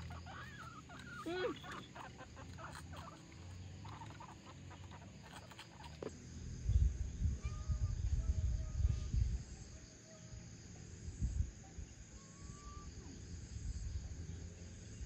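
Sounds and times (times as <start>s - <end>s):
faint bird calls: 0.0s - 6.2s, 7.2s - 10.5s, 11.6s - 15.0s
insects chirring: 0.0s - 15.0s.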